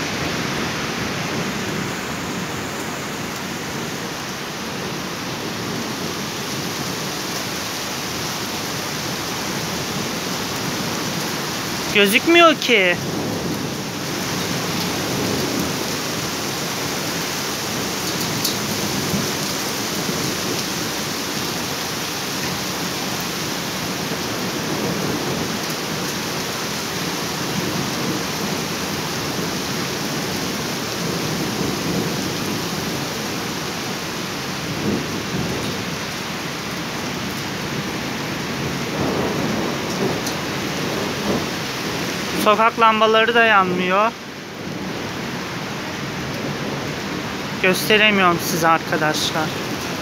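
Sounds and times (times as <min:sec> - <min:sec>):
heavy rain downpour: 0:00.0 - 0:50.0.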